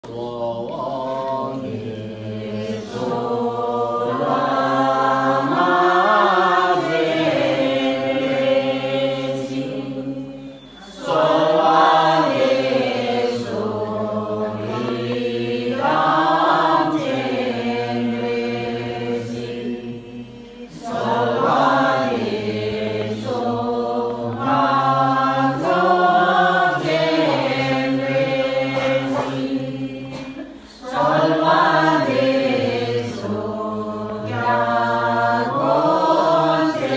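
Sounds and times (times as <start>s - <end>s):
group of voices chanting prayers: 0.0s - 36.9s.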